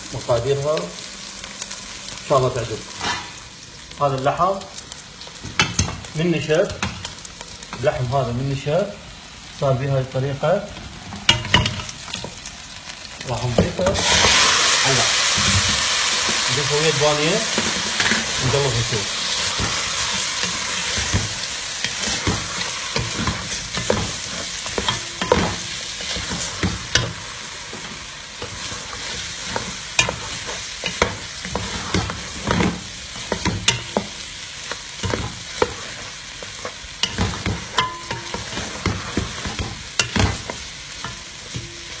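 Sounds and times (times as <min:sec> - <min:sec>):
food sizzling in oil: 0:00.0 - 0:42.0.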